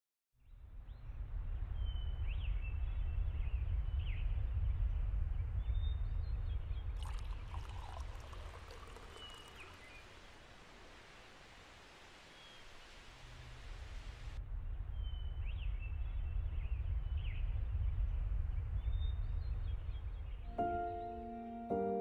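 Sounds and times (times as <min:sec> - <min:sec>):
low outdoor rumble: 0:00.6 - 0:12.2, 0:12.9 - 0:20.5.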